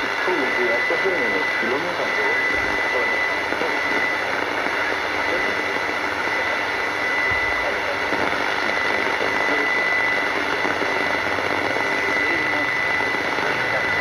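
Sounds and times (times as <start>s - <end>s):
continuous high tone: 0.0s - 14.0s
radio static hiss: 0.0s - 14.0s.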